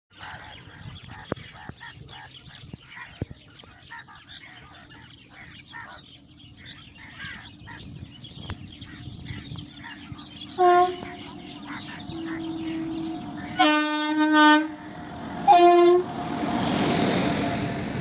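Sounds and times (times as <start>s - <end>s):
flock of birds chattering: 0.1s - 15.4s.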